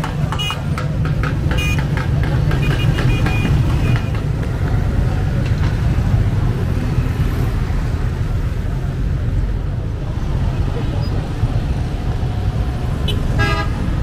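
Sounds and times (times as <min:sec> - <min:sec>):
cars and motorbikes passing: 0:00.0 - 0:14.0
street traffic rumble: 0:00.0 - 0:14.0.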